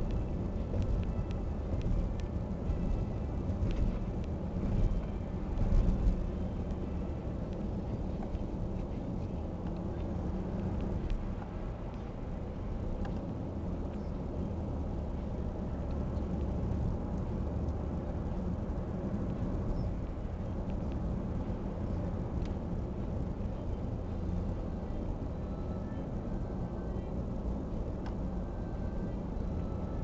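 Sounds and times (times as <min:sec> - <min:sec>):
construction machinery engine rumbling: 0:00.0 - 0:30.0.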